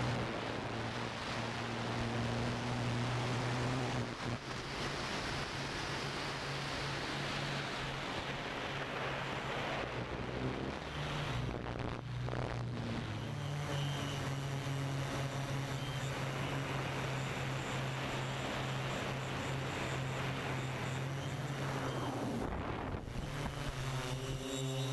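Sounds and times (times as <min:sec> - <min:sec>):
quadcopter propellers humming: 0:00.0 - 0:24.9.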